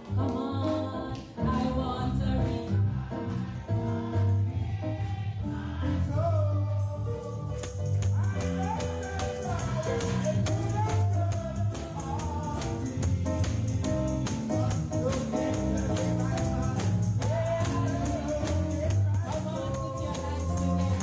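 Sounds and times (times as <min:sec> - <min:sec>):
gospel band playing: 0:00.0 - 0:21.0
tambourine beat: 0:00.0 - 0:21.0
voices singing: 0:00.0 - 0:21.0.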